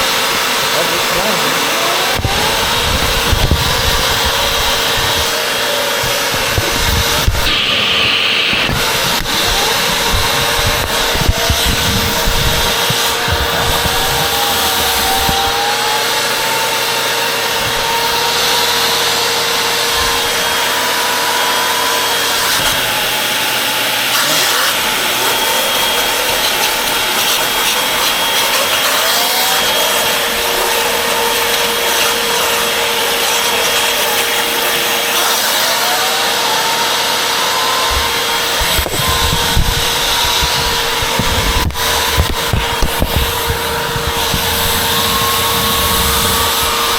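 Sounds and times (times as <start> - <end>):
vacuum cleaner whining: 0.0 - 46.9
vacuum nozzle scrubbing a surface: 0.0 - 46.9.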